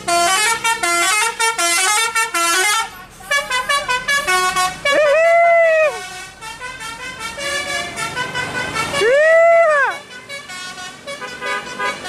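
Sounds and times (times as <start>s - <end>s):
multi-tone air horn melody: 0.0s - 12.0s.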